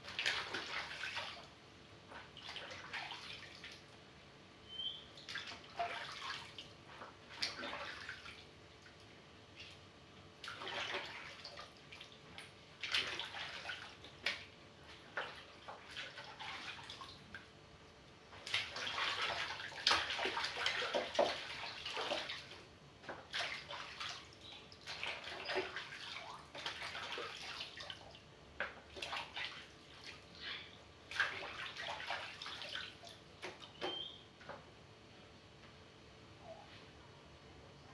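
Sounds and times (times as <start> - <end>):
water splashing and sloshing: 0.0 - 4.2, 5.1 - 34.8.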